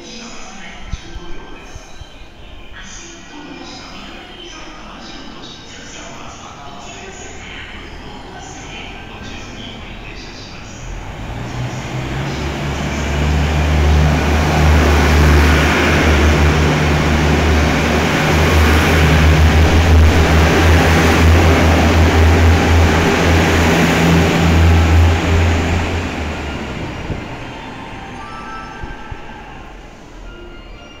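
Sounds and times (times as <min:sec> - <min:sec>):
diesel train engine drone: 0:05.7 - 0:31.0.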